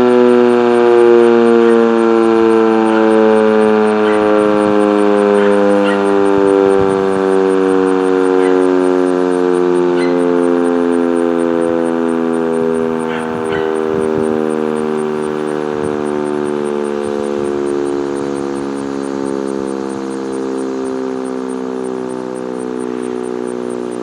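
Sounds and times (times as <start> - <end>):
tornado siren steady tone: 0.0 - 24.0.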